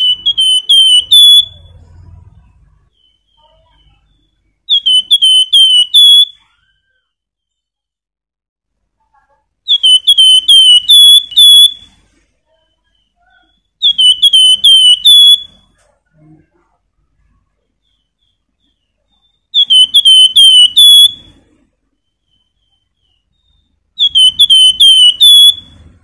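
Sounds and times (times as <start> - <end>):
songbird whistling song: 0.0 - 7.9, 9.6 - 16.0, 17.7 - 26.0.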